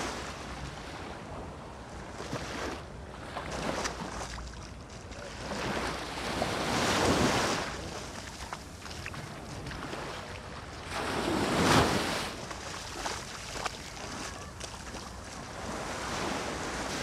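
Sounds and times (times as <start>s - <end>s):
sea waves washing over sand: 0.0s - 17.0s.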